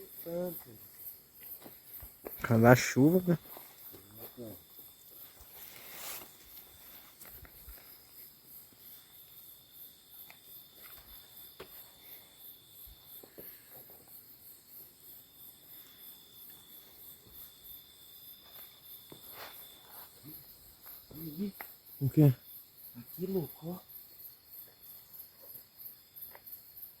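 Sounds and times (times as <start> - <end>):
high-pitched insect trills: 0.0 - 27.0
insects chirping: 0.0 - 27.0.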